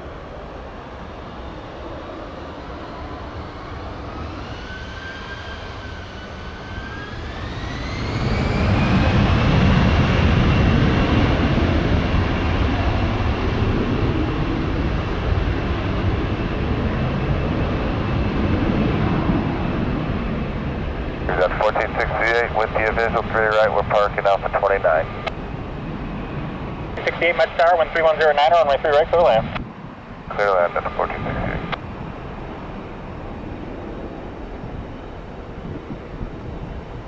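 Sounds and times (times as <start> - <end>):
jet engines spooling up: 0.2 - 37.0.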